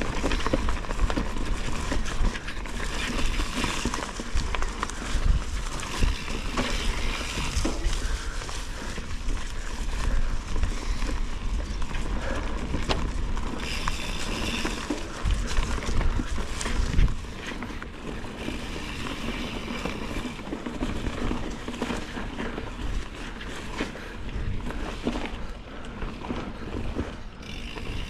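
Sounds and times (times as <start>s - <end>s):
bicycle rattling over bumps: 0.0s - 28.0s
wind rumbling on microphone: 0.0s - 28.0s.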